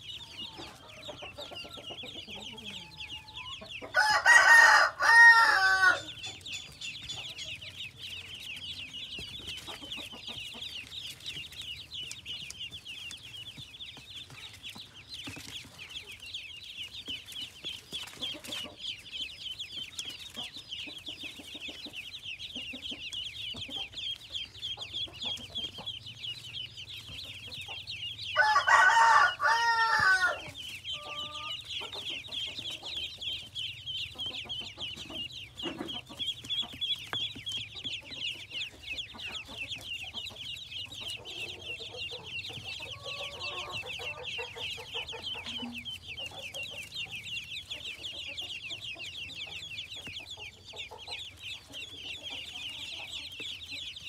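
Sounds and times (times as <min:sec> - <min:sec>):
ducklings peeping: 0:00.0 - 0:54.0.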